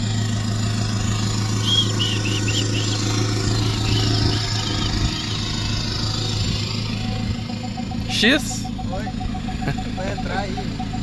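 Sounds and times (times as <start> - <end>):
pickup engine idling: 0.0 - 11.0
bird chirping: 1.5 - 11.0.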